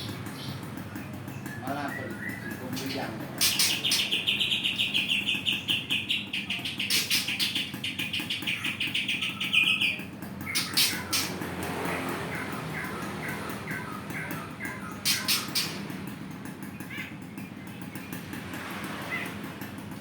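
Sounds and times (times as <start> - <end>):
songbird trilling: 0.0 - 18.2.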